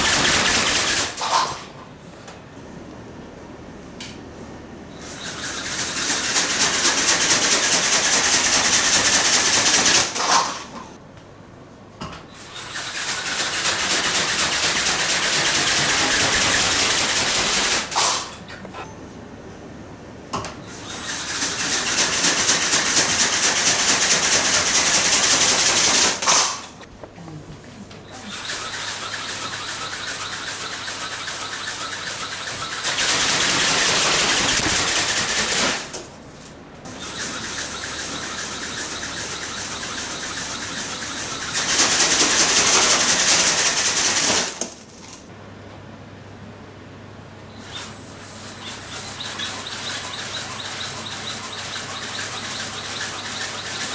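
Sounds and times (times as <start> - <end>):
motor and gears rattling: 0.0 - 1.9, 4.9 - 11.0, 12.2 - 18.9, 20.3 - 26.9, 27.9 - 45.3, 47.5 - 53.9.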